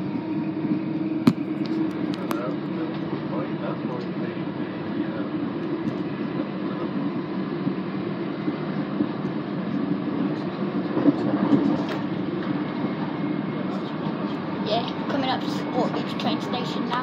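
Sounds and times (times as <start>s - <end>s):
train running noise inside carriage: 0.0s - 17.0s.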